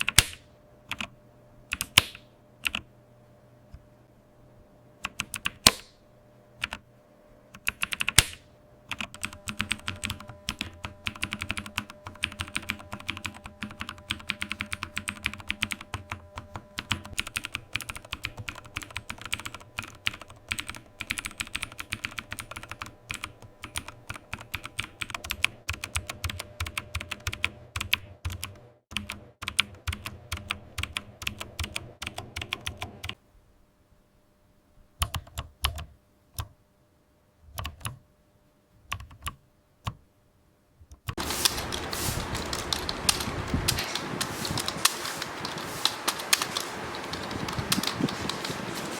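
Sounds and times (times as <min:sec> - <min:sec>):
mechanical keyboard typing: 0:00.0 - 0:01.1, 0:01.7 - 0:02.9, 0:05.0 - 0:05.9, 0:06.6 - 0:06.8, 0:07.6 - 0:33.2, 0:35.0 - 0:36.5, 0:37.5 - 0:38.0, 0:38.9 - 0:40.0, 0:40.9 - 0:48.9.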